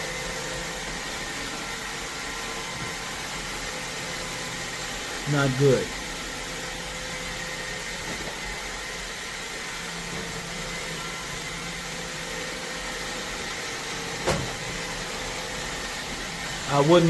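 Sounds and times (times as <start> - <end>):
robot vacuum suction fan: 0.0 - 17.0.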